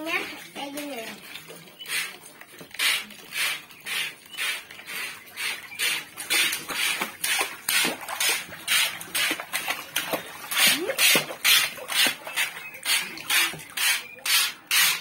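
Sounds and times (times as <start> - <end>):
children splashing water in pool: 0.0 - 15.0.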